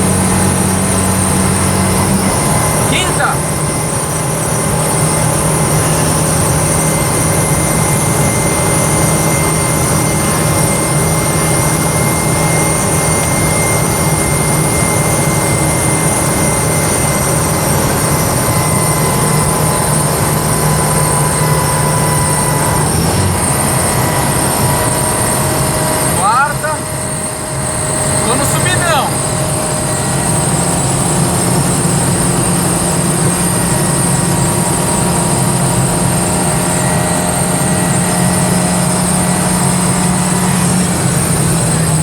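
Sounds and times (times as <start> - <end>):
car engine with open exhaust: 0.0 - 42.0.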